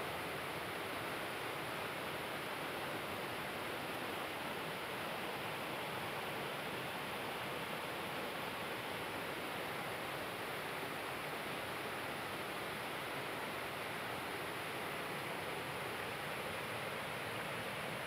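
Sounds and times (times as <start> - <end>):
waterfall rushing over boulders: 0.0 - 18.0.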